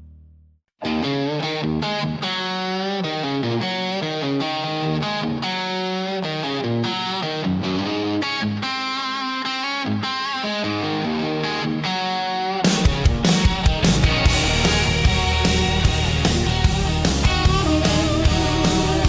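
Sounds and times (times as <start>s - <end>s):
electric guitar riff: 0.8s - 19.0s.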